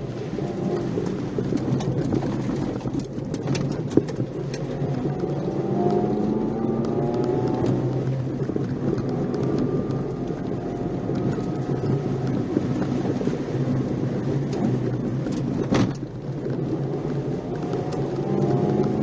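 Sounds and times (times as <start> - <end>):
car engine from inside: 0.0 - 19.0.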